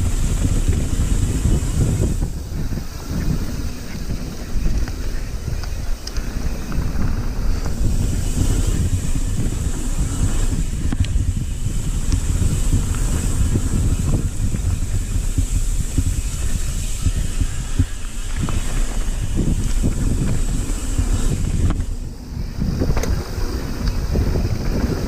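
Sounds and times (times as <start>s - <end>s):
bike clicks and rattles: 0.0s - 25.0s
tyre noise on dirt: 0.0s - 25.0s
wind buffeting microphone: 0.0s - 25.0s.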